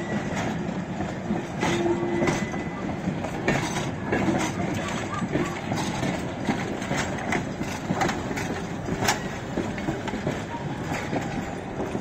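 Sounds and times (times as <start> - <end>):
steady train rumble: 0.0 - 12.0
train wheels clicking over joints: 0.0 - 12.0.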